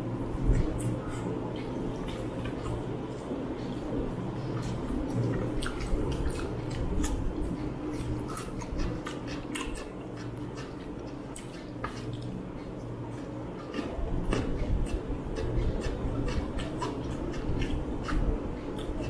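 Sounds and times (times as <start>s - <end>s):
people chewing food: 0.0s - 19.0s.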